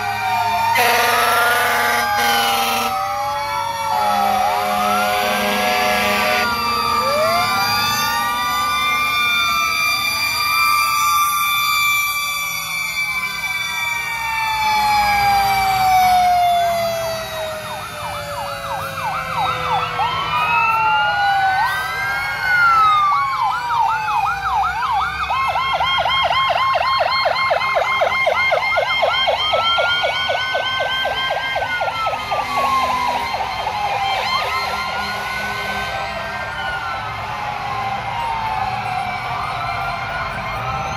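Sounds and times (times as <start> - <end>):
fast siren yelp: 0.0 - 40.9
sirens wailing: 0.0 - 40.9.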